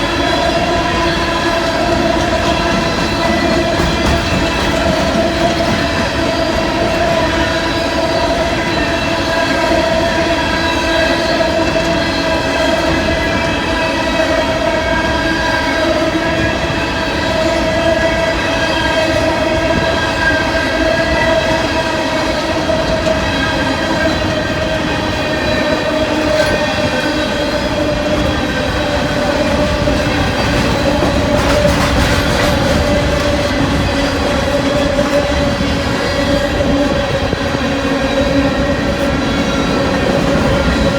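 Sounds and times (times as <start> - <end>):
freight train cars rolling: 0.0 - 40.9.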